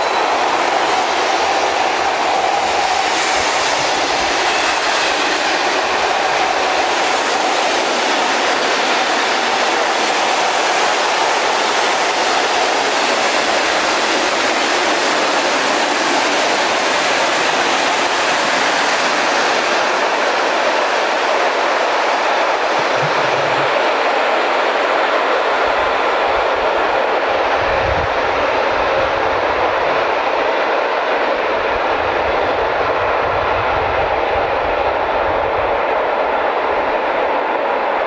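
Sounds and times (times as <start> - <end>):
freight train rolling past: 0.0 - 38.0.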